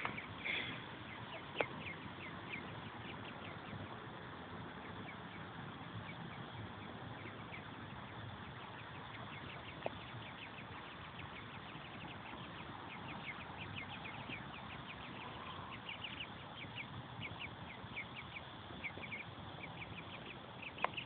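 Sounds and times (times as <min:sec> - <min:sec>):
ducklings peeping: 0:00.0 - 0:21.0.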